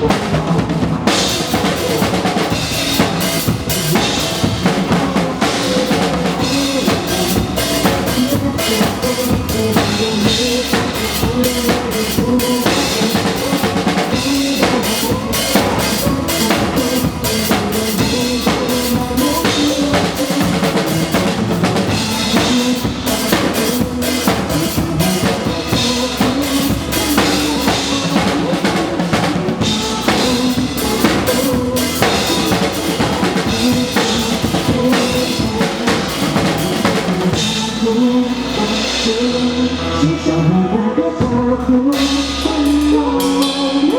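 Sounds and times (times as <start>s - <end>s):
drum kit groove: 0.0s - 39.8s, 41.3s - 43.9s
pitched accompanying music: 0.0s - 43.9s.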